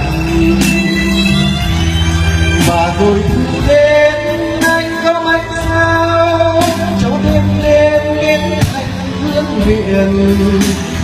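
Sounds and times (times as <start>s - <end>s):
man singing into a microphone: 0.0s - 1.6s, 2.6s - 11.0s
backing music: 0.0s - 11.0s.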